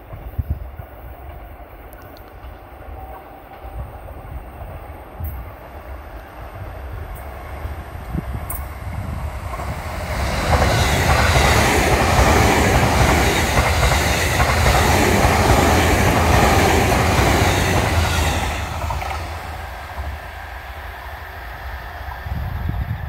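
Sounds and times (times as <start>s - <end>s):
electric train passing at speed: 0.0s - 23.0s.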